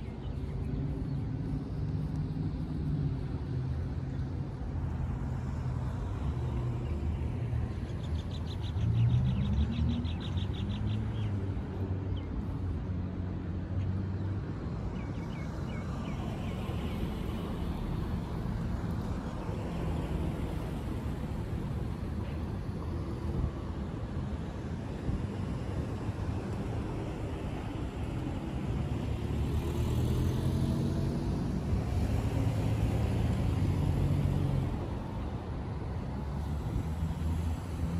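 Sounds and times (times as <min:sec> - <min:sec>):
rumble of passing cars: 0:00.0 - 0:37.9.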